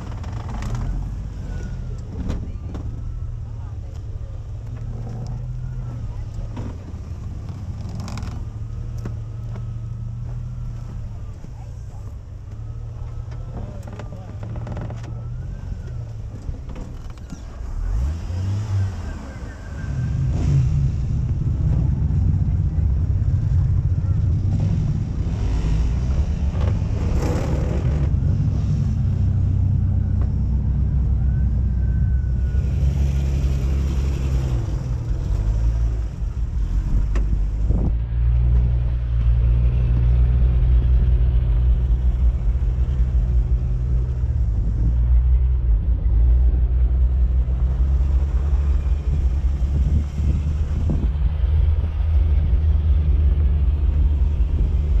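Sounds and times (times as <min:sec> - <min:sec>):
off-road vehicle engine rumbling: 0:00.0 - 0:55.0.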